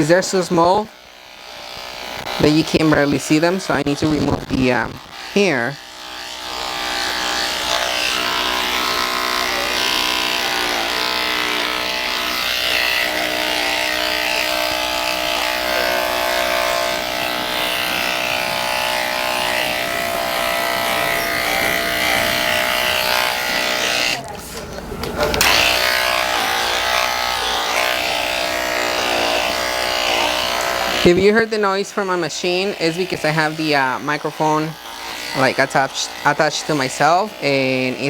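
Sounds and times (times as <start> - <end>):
electric clippers buzzing: 0.0 - 38.0.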